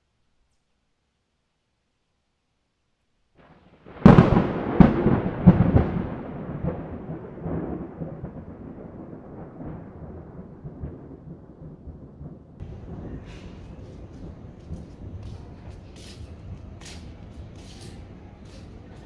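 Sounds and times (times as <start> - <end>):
thunderclap cracking and rumbling: 3.4 - 19.0.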